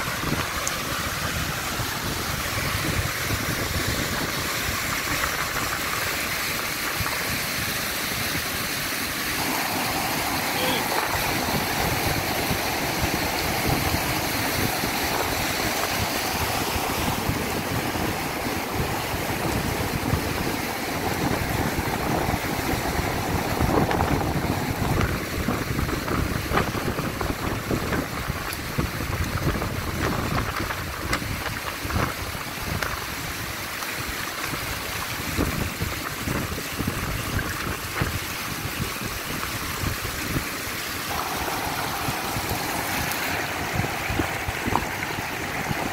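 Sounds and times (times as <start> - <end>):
stream rushing over stones: 0.0 - 45.9
wind gusting on microphone: 0.0 - 45.9.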